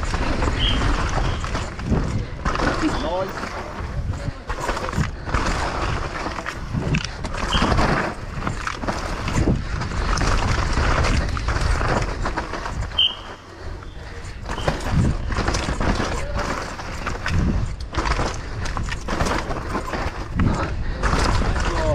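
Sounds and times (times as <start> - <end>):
bike knocking over bumps: 0.0 - 13.3, 14.2 - 21.9
bike rattling: 0.0 - 21.9
tyres scrabbling over dirt: 0.0 - 21.9
wind rushing over microphone: 0.0 - 21.9.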